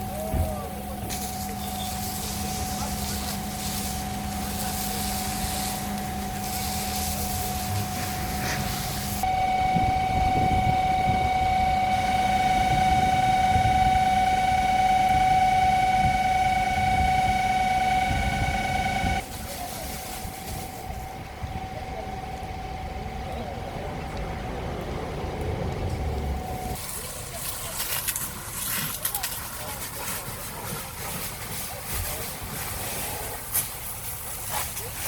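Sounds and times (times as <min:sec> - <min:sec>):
machine whining and rumbling: 0:00.0 - 0:35.0.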